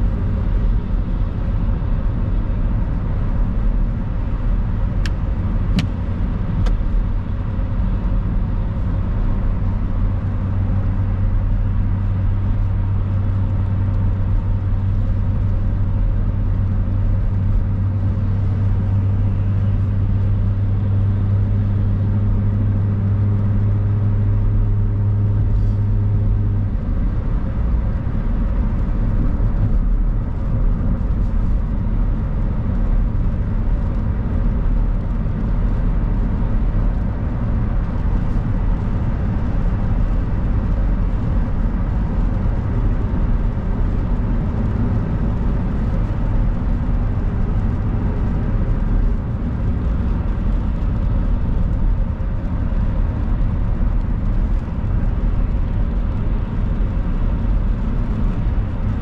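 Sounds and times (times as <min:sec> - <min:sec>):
car engine and tyres on wet road: 0:00.0 - 0:59.0.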